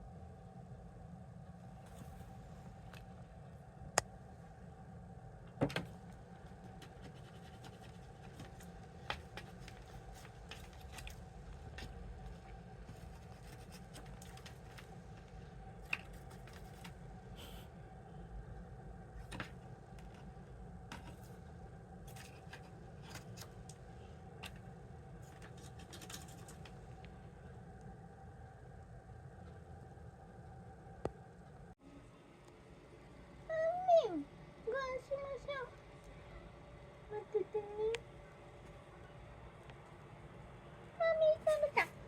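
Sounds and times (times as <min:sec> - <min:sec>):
low household hum: 0:00.0 - 0:42.0.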